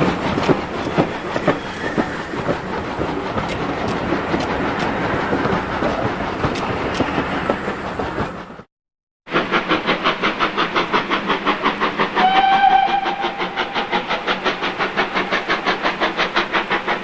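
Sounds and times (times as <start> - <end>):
train wheels clicking over rail joints: 0.0 - 8.7, 9.3 - 17.0.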